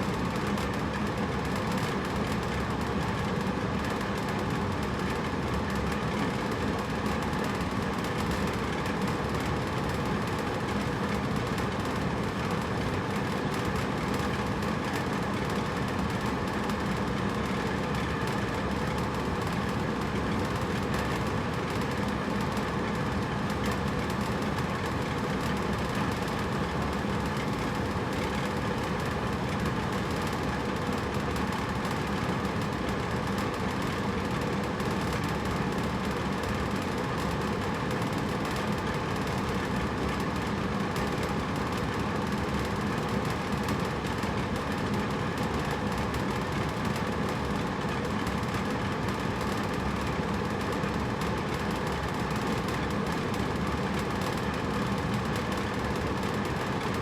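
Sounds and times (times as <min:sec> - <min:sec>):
air conditioner humming: 0:00.0 - 0:57.0.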